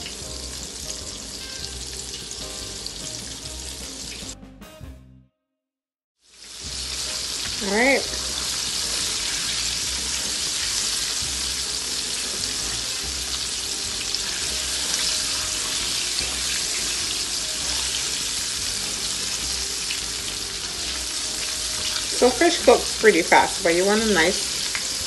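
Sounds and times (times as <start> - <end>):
food deep-frying in hot oil: 0.0 - 4.4, 6.2 - 25.0.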